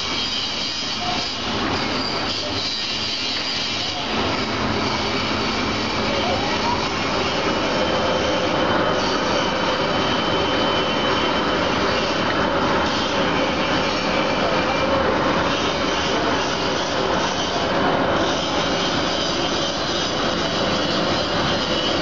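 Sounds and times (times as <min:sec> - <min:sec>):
fans rushing whir: 0:00.0 - 0:22.0.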